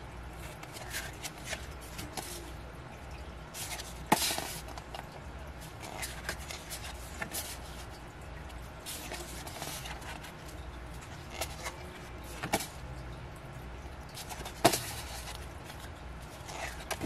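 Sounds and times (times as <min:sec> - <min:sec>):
paper and plastic rustling: 0:00.3 - 0:02.7, 0:03.5 - 0:12.9, 0:14.1 - 0:17.0.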